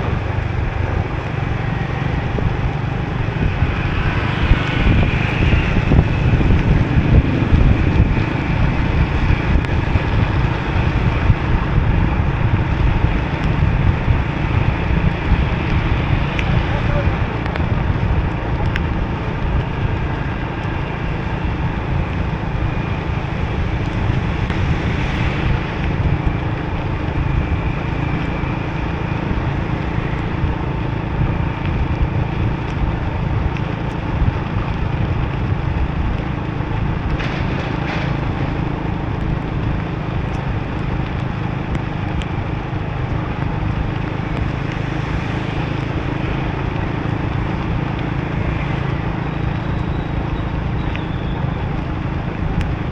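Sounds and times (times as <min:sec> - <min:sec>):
motorbike engine: 0:00.0 - 0:44.8
wet tyre noise: 0:00.0 - 0:52.9
wind rush on microphone: 0:00.0 - 0:52.9.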